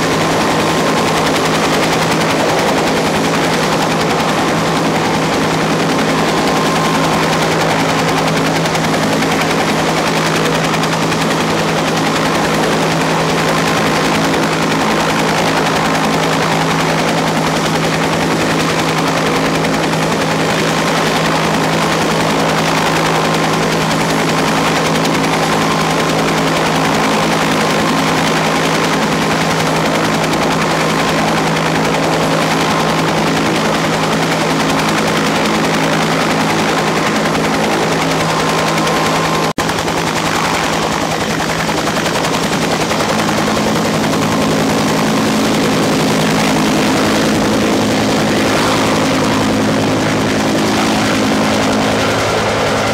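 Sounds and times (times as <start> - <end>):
jet engines roaring: 0.0 - 52.9.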